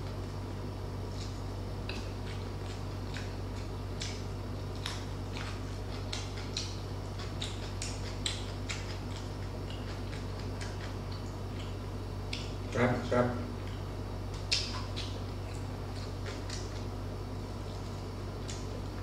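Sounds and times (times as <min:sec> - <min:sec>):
low electrical hum: 0:00.0 - 0:19.0
chewing crunches and clicks: 0:01.1 - 0:12.8, 0:13.6 - 0:16.9, 0:17.7 - 0:19.0.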